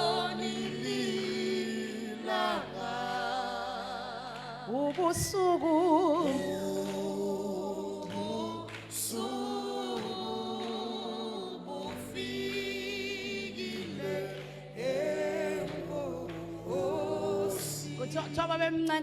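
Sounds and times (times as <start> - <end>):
voices singing a hymn in harmony: 0.0 - 19.0.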